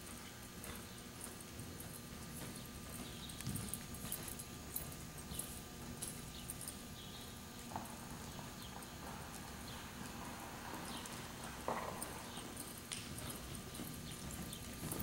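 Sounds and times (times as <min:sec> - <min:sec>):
horse hoofbeats on soft dirt: 0:00.0 - 0:15.0.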